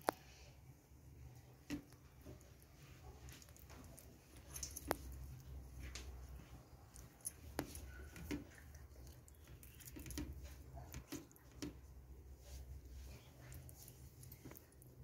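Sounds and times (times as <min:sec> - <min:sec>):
wet squishing of hand mixing: 0:01.2 - 0:15.0.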